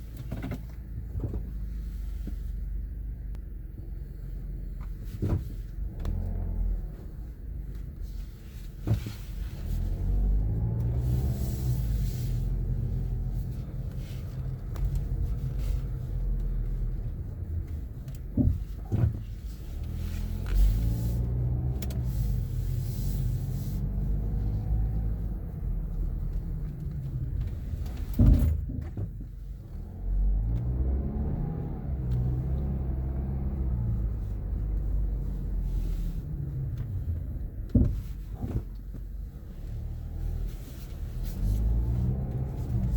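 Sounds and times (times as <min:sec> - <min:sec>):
car road rumble: 0:00.0 - 0:42.9.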